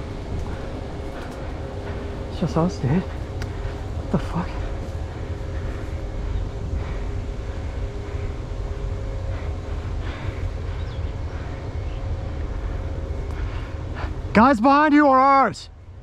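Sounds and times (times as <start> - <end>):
faint steady hum: 0.0 - 16.0
low rumbling noise: 0.0 - 16.0.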